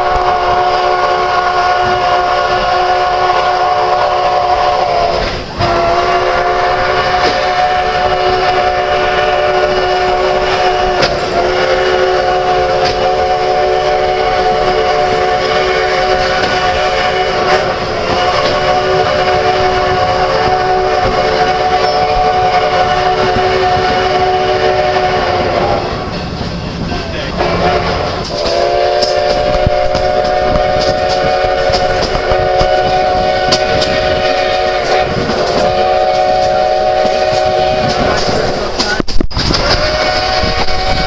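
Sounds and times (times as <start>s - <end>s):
steam locomotive whistle blasts: 0.0s - 26.3s, 27.3s - 38.6s, 39.4s - 41.0s.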